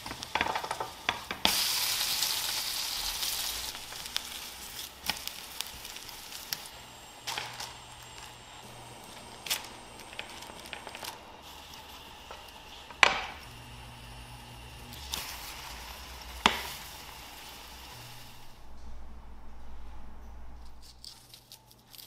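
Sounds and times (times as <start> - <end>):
egg sizzling: 0.0 - 18.9.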